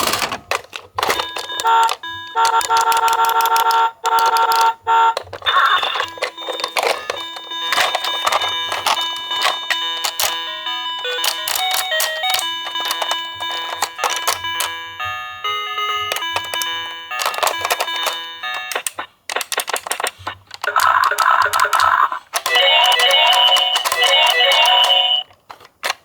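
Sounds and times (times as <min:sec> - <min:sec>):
toy cars clicking and clattering: 0:00.0 - 0:14.8, 0:15.8 - 0:26.0
toy ambulance siren tones: 0:01.0 - 0:19.1, 0:20.6 - 0:25.3.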